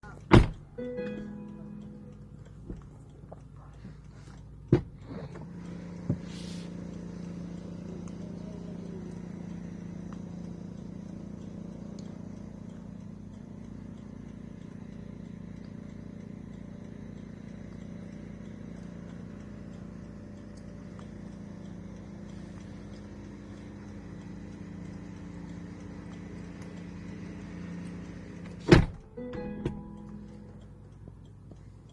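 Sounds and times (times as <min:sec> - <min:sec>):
car engine idling: 0:00.0 - 0:31.9
sharp clicks: 0:00.0 - 0:31.9.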